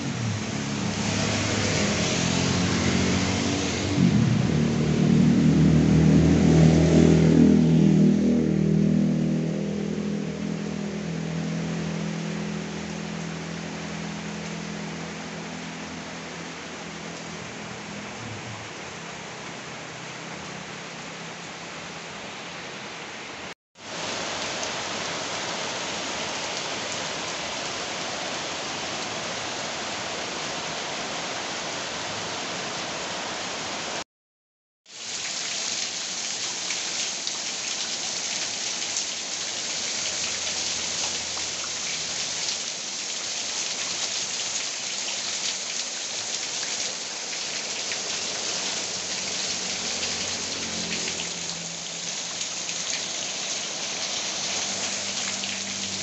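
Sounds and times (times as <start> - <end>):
heavy rain falling: 0.0 - 34.0, 34.9 - 56.0.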